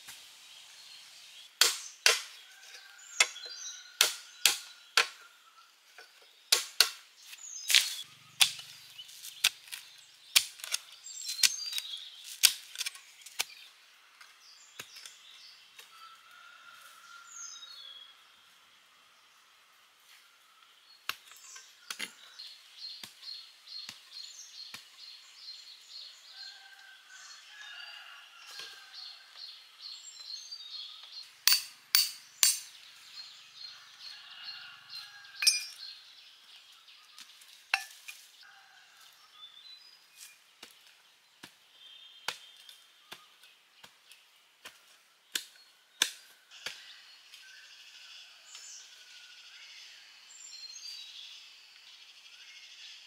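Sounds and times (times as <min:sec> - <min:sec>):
birds chirping and twittering: 0:00.0 - 0:53.0.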